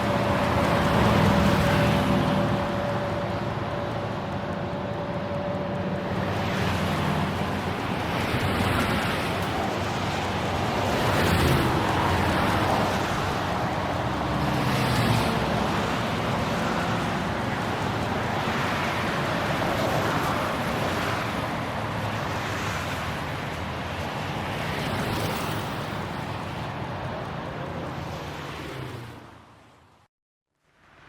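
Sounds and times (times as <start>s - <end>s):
passing road traffic: 0.0s - 30.0s.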